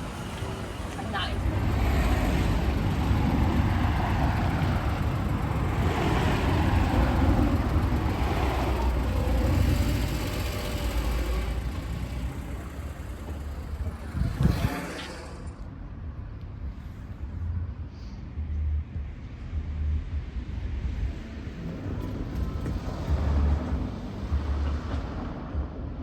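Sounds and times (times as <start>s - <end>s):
vehicle engine rumbling and revving: 0.0s - 26.0s.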